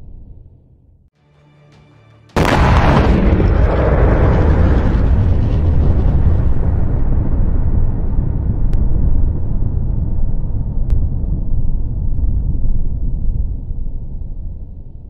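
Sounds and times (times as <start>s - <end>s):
explosion rumble: 2.4s - 15.0s.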